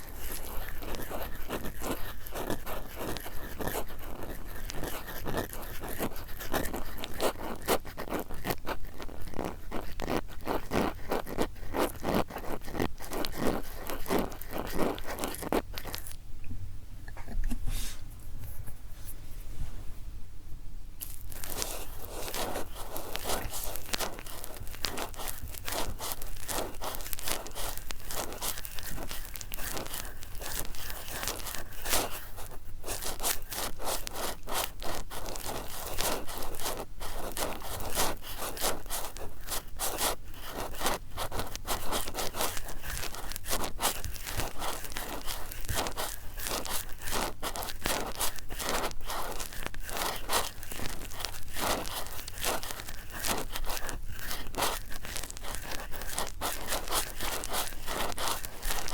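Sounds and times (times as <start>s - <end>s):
cotton swabs scraping: 0.0s - 16.2s, 21.0s - 58.9s.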